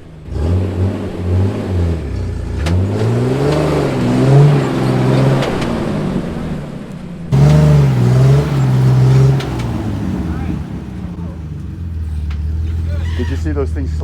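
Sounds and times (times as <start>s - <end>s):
engine revving under load: 0.0s - 14.0s.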